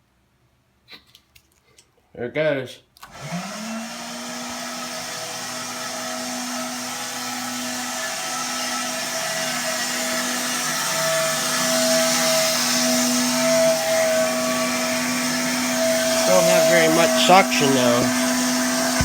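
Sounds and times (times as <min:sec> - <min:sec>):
vacuum cleaner motor whining: 0:03.0 - 0:19.0.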